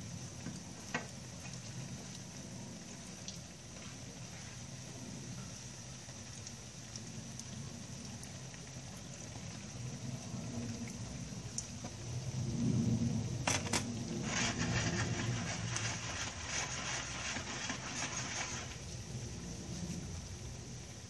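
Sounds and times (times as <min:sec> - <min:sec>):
oil sizzling and crackling: 0:00.0 - 0:21.0.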